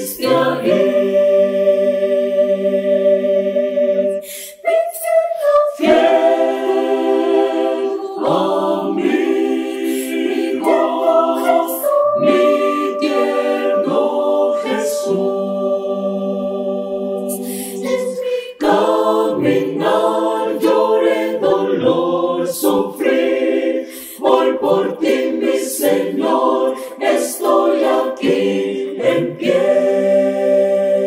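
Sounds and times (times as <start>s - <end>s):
mixed choir singing a cappella: 0.0s - 31.0s.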